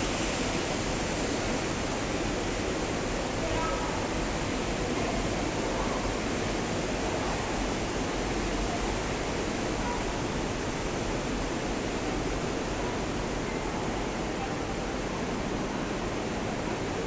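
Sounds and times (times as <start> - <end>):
sewer water rushing: 0.0 - 17.0.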